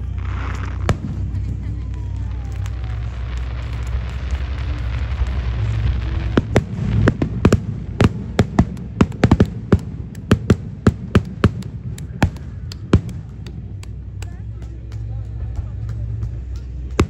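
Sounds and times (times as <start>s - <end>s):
fireworks shells bursting: 0.0s - 15.1s
fireworks crackling hiss: 0.0s - 17.0s
low rumble: 0.0s - 17.0s.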